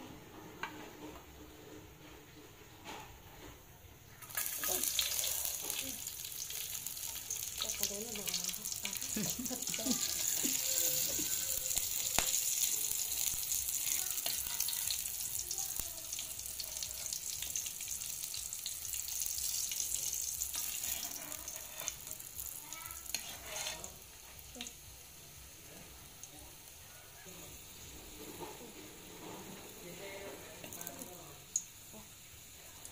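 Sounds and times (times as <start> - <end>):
garlic sizzling in oil: 4.2 - 32.9.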